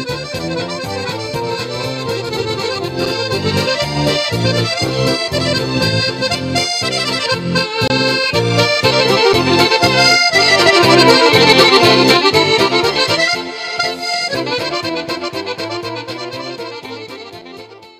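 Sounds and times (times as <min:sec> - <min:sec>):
accordion music: 0:00.0 - 0:17.9.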